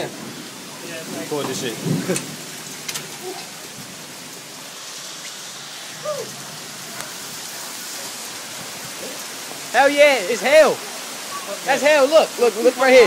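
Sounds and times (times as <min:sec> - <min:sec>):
heavy rain with hail: 0:00.0 - 0:13.0.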